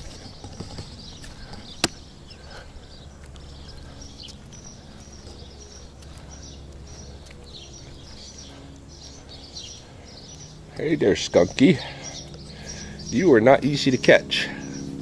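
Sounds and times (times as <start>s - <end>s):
soft footsteps on grass: 0.0s - 12.8s
small birds chirping: 0.0s - 15.0s
steady low rumble: 0.0s - 15.0s.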